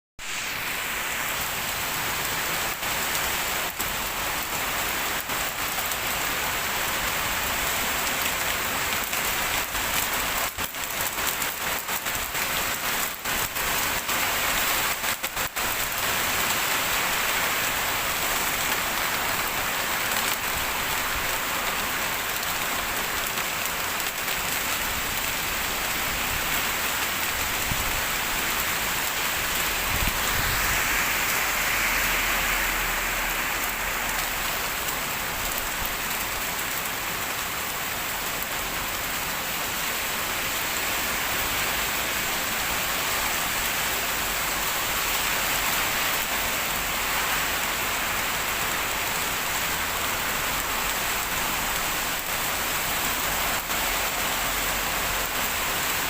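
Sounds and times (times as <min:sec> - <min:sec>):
heavy rain falling: 0:00.2 - 0:56.0.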